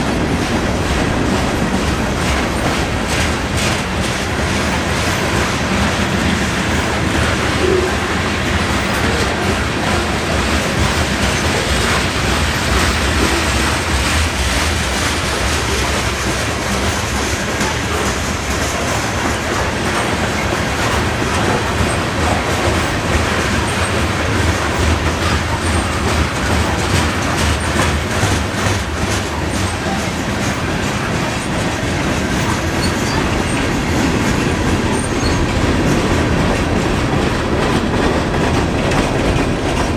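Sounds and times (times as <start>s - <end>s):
clicking over rail joints: 0.0s - 39.9s
train wheels rumbling on rails: 0.0s - 39.9s.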